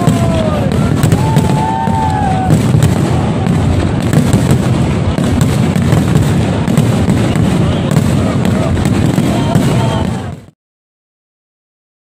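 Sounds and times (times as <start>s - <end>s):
firework whistling: 0.0s - 10.5s
fireworks booming and crackling: 0.0s - 10.6s.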